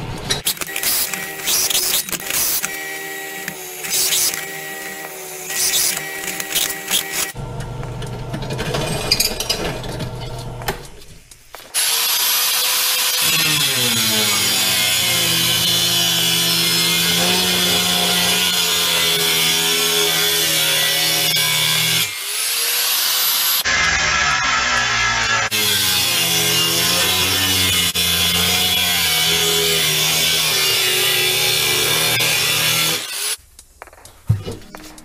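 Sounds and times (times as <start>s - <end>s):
angle grinder cutting steel: 0.4s - 7.4s, 11.7s - 33.4s.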